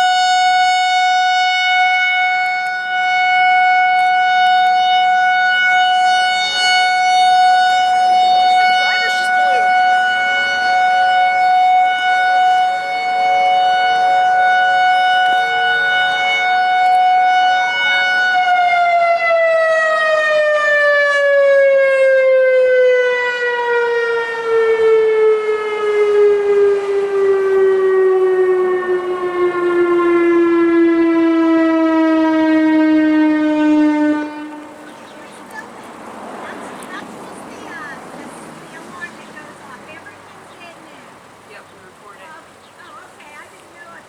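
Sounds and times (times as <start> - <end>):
electronic warning siren: 0.0 - 35.8.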